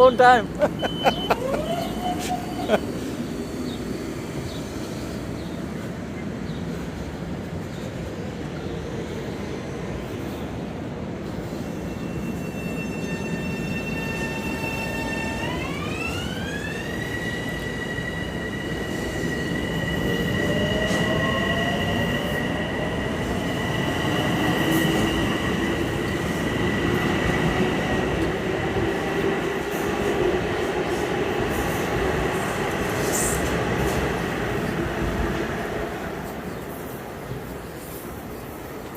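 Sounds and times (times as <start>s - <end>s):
train wheels rumbling on rails: 0.5s - 38.9s.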